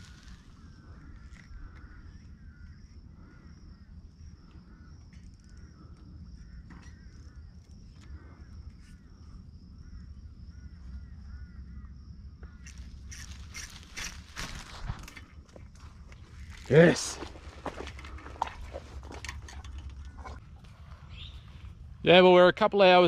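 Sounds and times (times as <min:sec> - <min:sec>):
birds chirping: 0:00.0 - 0:22.2.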